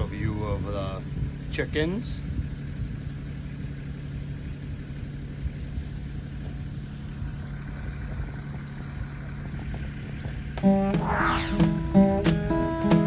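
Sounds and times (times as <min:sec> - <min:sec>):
tractor diesel engine idling: 0:00.0 - 0:10.8.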